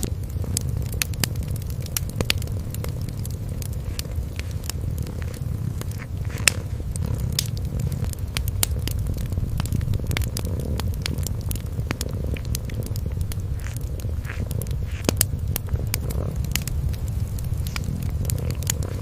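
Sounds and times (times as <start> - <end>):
kitten purring: 0.0 - 19.0
wood fire crackling and popping: 0.0 - 19.0.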